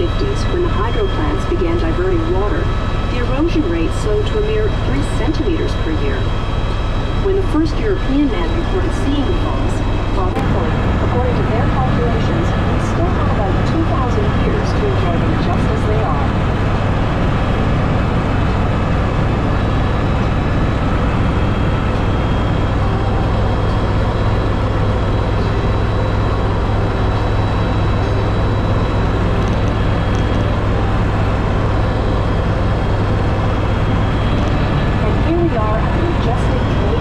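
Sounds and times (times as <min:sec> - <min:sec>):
helicopter engine and rotor drone: 0:00.0 - 0:37.0.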